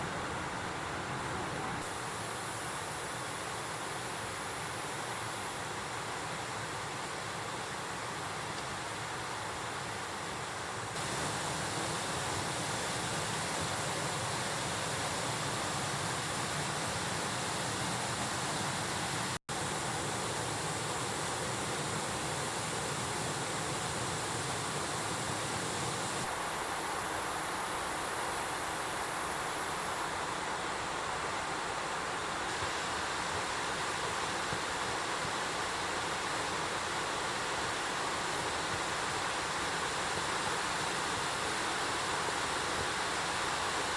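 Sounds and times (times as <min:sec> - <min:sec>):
mountain stream rushing: 0:00.0 - 0:43.9.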